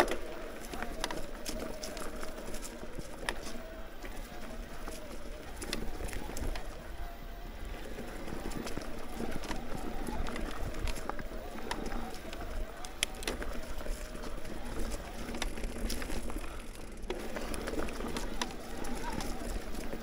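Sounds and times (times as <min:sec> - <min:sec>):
bike clicking and rattling: 0:00.0 - 0:20.0.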